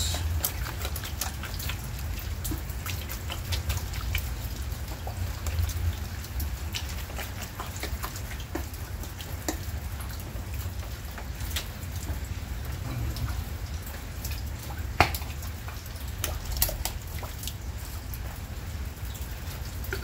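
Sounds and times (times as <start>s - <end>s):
heavy rain: 0.0s - 20.0s
raindrops tapping on surfaces: 0.0s - 20.0s.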